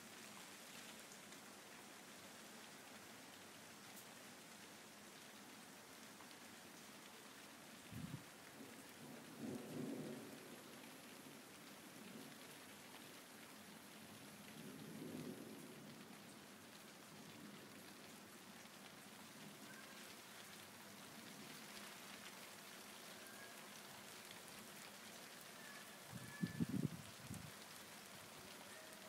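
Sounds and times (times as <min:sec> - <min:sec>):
faint rain hiss: 0:00.0 - 0:29.0.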